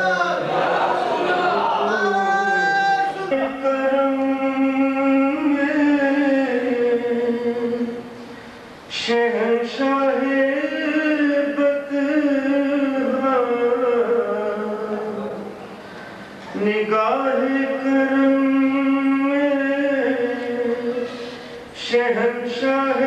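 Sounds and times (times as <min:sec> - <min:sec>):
man singing unaccompanied: 0:01.6 - 0:08.1, 0:08.9 - 0:15.5, 0:16.5 - 0:23.0.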